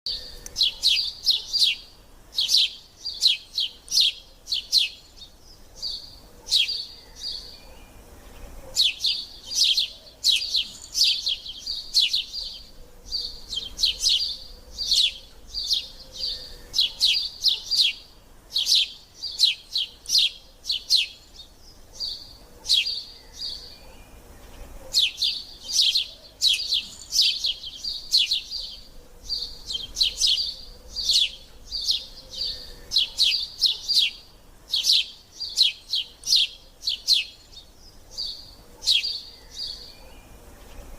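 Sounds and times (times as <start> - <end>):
sparrow chirping: 0.1 - 40.9.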